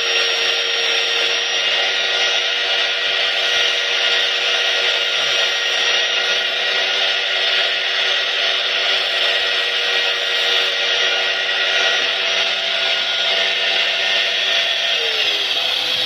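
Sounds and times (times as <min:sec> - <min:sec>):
angle grinder whining: 0:00.0 - 0:16.0.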